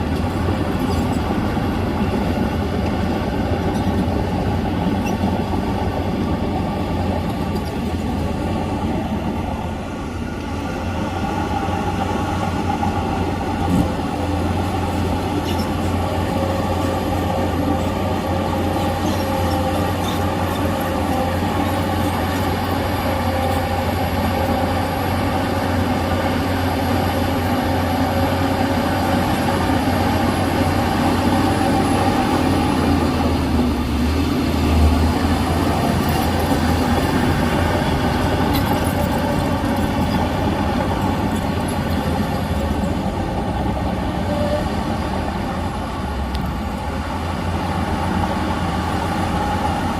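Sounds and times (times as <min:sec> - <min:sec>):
bulldozer diesel engine running: 0:00.0 - 0:49.9
steel tracks moving: 0:00.0 - 0:49.9.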